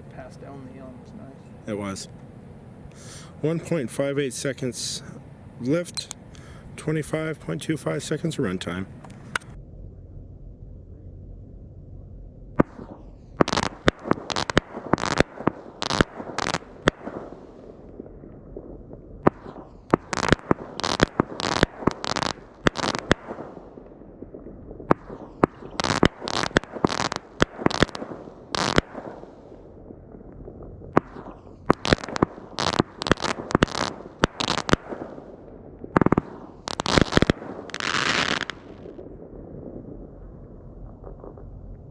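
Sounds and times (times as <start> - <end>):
dense firework crackle: 0.0 - 41.9
firework cake firing: 1.7 - 9.6, 12.5 - 41.9.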